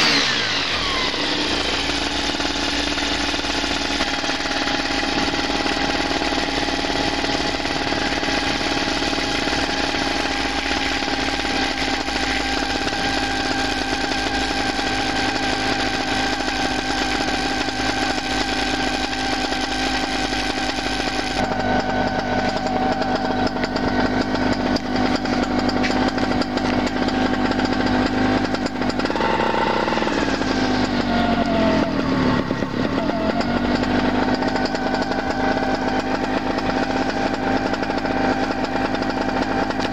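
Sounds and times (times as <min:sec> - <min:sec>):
paramotor engine buzzing: 0:00.0 - 0:39.9.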